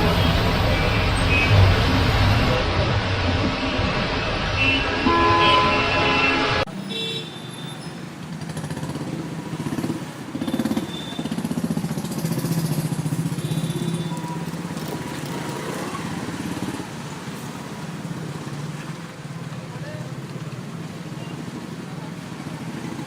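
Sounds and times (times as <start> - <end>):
motorbike and vehicle engines: 0.0 - 23.0.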